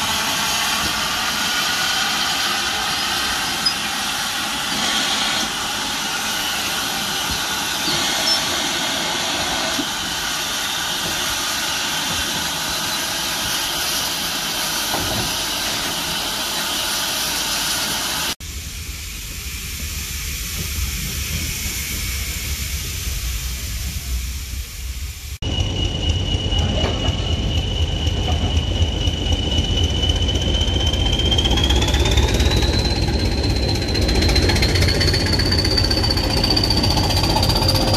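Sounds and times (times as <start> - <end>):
low rumble inside railway carriage: 0.0 - 37.9
steam locomotive hissing: 0.0 - 37.9.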